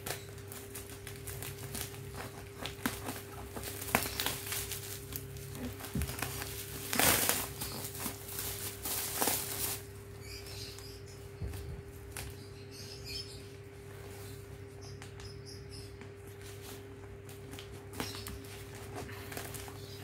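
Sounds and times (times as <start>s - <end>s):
packaging rustling and crinkling: 0.0s - 12.4s, 16.3s - 20.0s.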